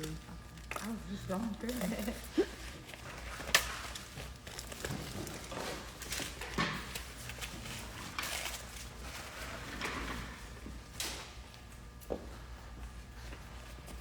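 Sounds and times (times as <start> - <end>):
rustling of things handled: 0.0 - 14.0.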